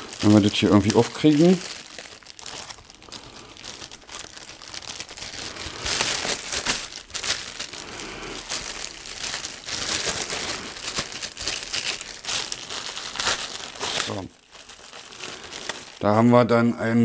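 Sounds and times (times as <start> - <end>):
plastic film crinkling: 0.0 - 16.2.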